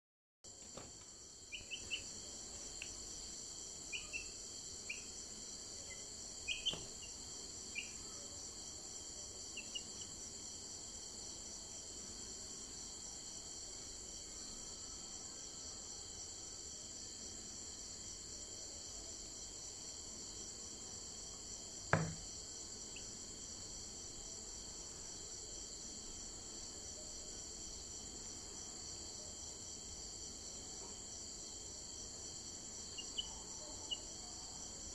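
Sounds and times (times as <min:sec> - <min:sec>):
high-pitched insect chorus: 0:01.3 - 0:17.6, 0:18.3 - 0:34.9.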